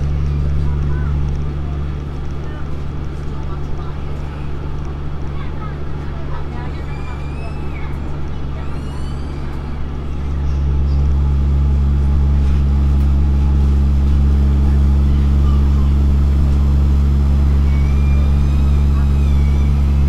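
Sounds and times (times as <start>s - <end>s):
train diesel engine drone: 0.0s - 20.0s
train running noise: 0.0s - 20.0s.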